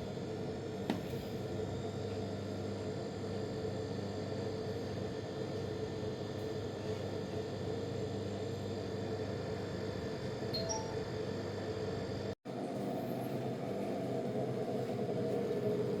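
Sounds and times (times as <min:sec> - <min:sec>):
machine hum and whir: 0:00.0 - 0:16.0.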